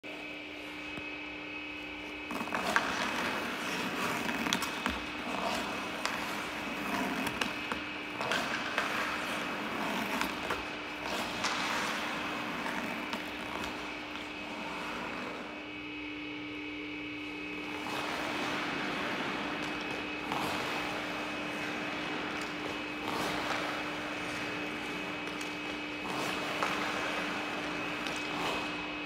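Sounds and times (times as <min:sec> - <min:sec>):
steady hum: 0:00.0 - 0:29.0
skate blades scraping ice: 0:01.7 - 0:29.0.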